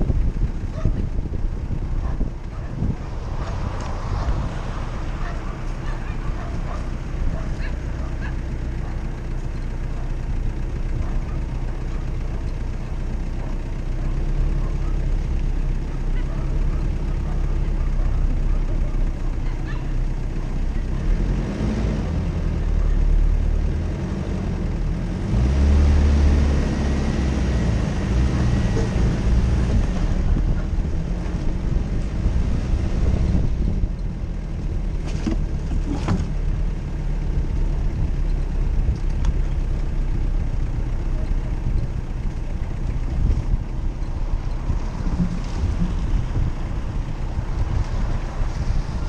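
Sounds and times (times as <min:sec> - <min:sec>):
car engine running off-road: 0:00.0 - 0:49.0.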